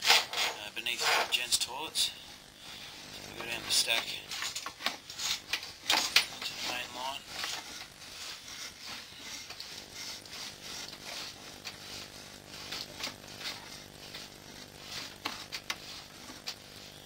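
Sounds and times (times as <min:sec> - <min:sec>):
steady hum: 0:00.0 - 0:17.0
push rod scraping hisses: 0:02.6 - 0:17.0.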